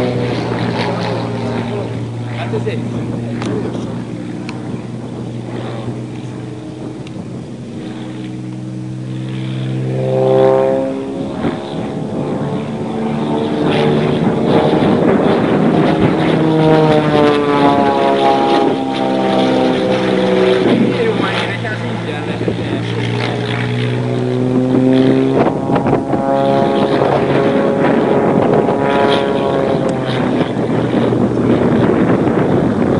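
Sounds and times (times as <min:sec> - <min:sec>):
propeller plane flying: 0:00.0 - 0:32.9.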